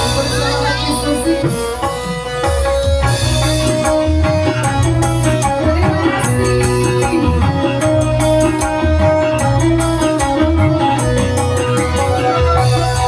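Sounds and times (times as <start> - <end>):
hand drum beat: 0.0 - 13.0
keyboard melody: 0.0 - 13.0.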